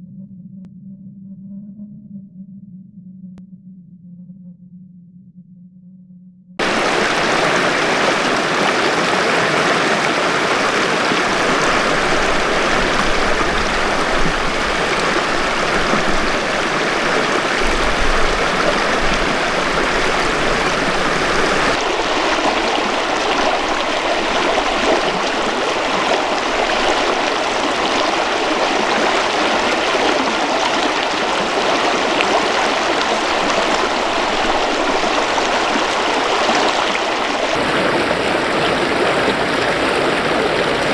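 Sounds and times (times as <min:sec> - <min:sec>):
river water rushing: 0:06.6 - 0:40.9.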